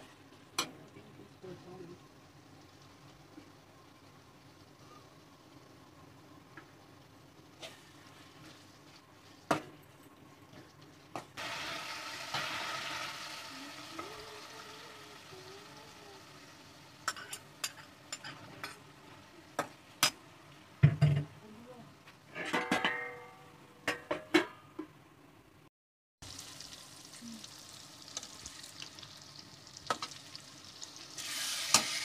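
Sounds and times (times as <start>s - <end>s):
masala sizzling in pan: 0.0s - 22.3s, 26.2s - 32.0s.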